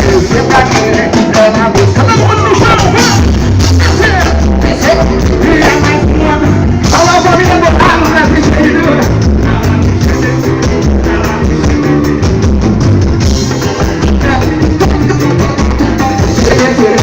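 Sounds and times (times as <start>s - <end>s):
drum beat: 0.0s - 17.0s
heavy bass line: 0.0s - 17.0s
loud music with singing: 0.0s - 17.0s.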